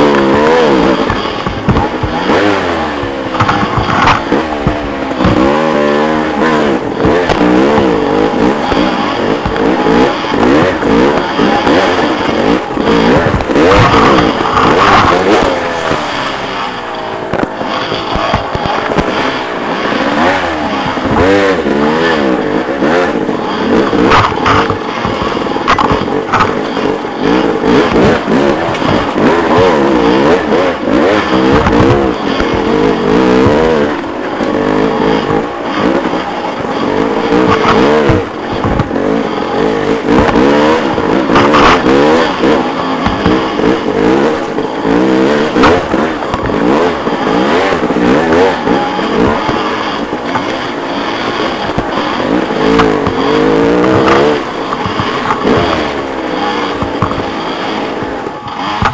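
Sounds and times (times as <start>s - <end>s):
dirt bike engine revving: 0.0s - 58.9s
sharp knocks: 0.3s - 34.0s, 35.2s - 57.4s, 58.2s - 58.9s.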